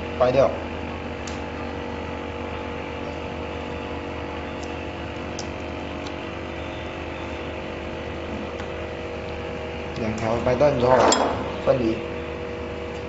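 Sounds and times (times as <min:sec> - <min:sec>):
machine electric hum: 0:00.0 - 0:13.0.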